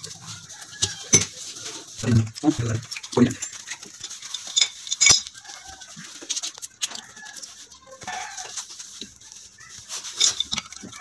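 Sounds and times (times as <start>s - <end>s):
metal clicks and scrapes: 0.0s - 11.0s.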